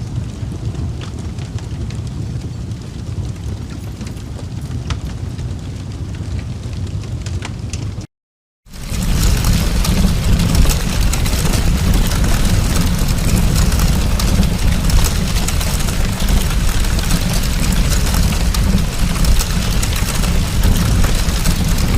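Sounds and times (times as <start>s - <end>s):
large fire crackling: 0.0s - 8.1s, 8.7s - 21.9s.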